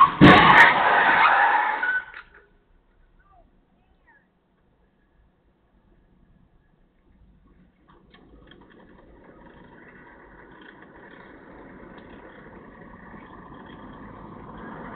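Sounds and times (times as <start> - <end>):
vehicle engine and tyre noise: 0.0 - 14.9.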